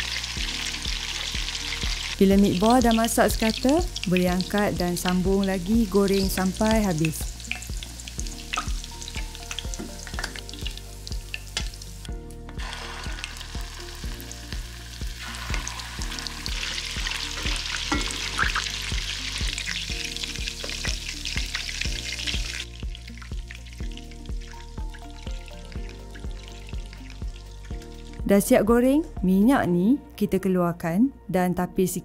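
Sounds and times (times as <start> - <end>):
meatballs sizzling in oil: 0.0 - 28.6.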